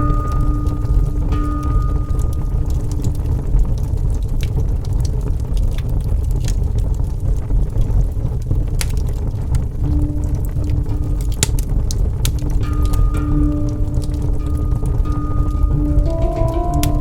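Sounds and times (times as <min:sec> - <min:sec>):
fire crackles and pops: 0:00.0 - 0:17.0
wood fire rumbling: 0:00.0 - 0:17.0.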